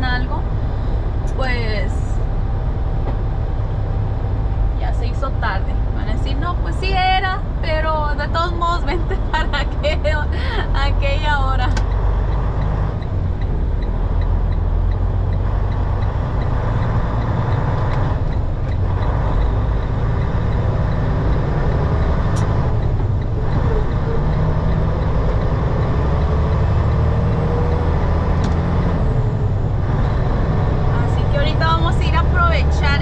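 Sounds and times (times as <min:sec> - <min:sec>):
truck diesel engine: 0:00.0 - 0:33.0.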